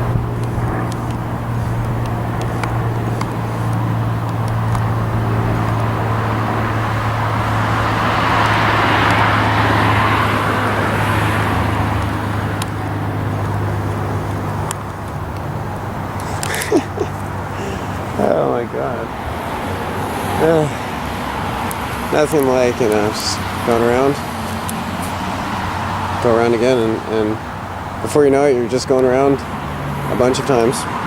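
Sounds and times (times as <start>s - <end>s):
propeller plane engine drone: 0.0s - 31.0s.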